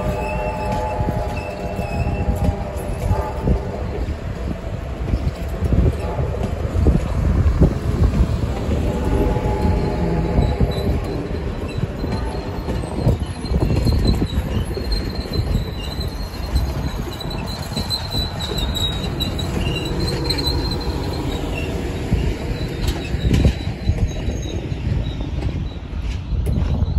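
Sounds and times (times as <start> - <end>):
high wheel squeal: 0.0 - 26.9
train wheels rumbling on rails: 0.0 - 26.9.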